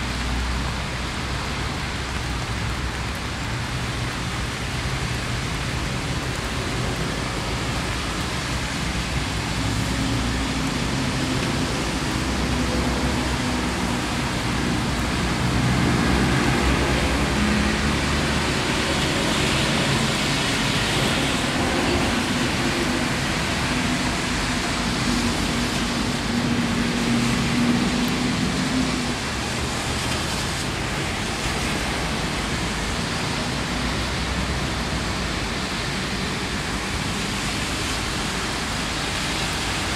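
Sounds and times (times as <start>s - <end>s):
rain on wet ground: 0.0s - 39.9s.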